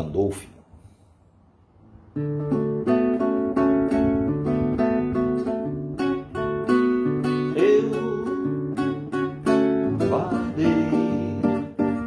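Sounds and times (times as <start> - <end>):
acoustic guitar picked chords: 1.9 - 12.0.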